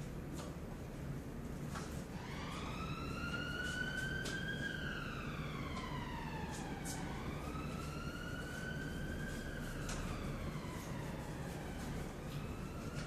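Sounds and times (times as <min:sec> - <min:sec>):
siren wailing: 0:02.1 - 0:13.0.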